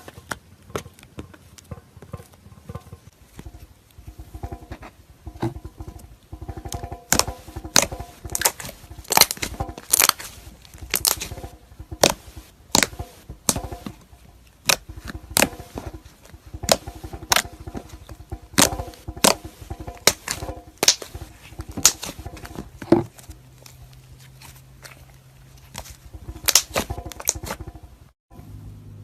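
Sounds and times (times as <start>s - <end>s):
crunchy slime crackling pops: 3.4s - 27.8s.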